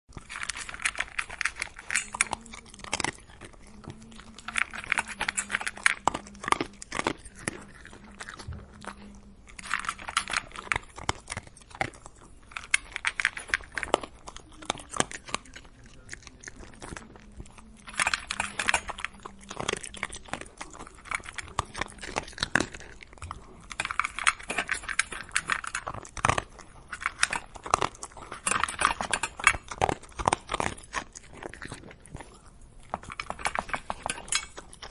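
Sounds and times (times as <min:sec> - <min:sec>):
dog chewing and crunching food: 0:00.1 - 0:34.9.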